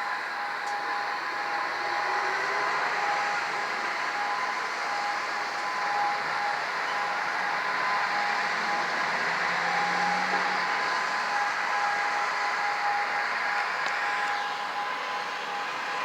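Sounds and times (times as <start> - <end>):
electronic siren steady tone: 0.0 - 16.0.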